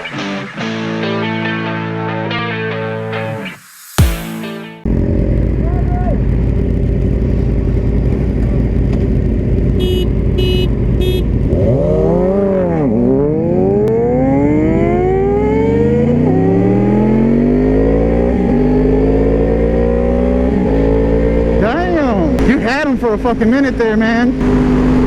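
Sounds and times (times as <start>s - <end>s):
motorcycle engine accelerating: 4.0s - 25.0s.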